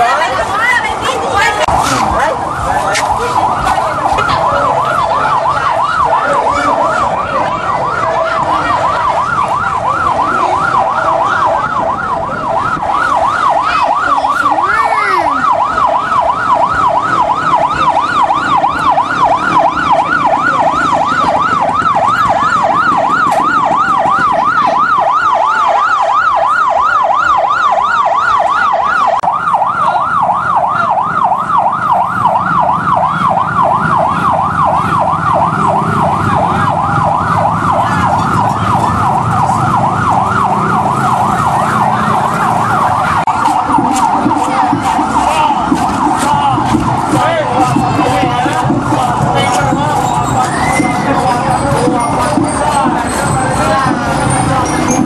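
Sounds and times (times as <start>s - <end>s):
motorcycle engines passing: 0.0s - 25.4s, 29.4s - 55.0s
siren yelping: 0.0s - 55.0s.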